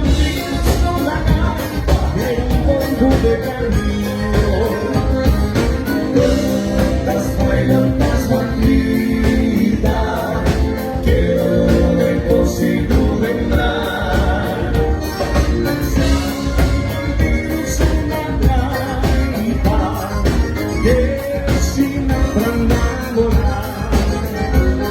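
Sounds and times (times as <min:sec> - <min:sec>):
live folk dance band playing: 0:00.0 - 0:24.9.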